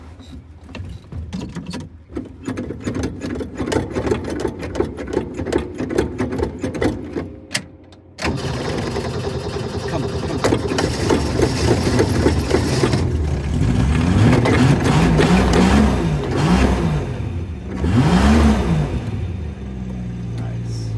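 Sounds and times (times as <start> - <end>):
engine cranking and running: 1.5 - 20.9.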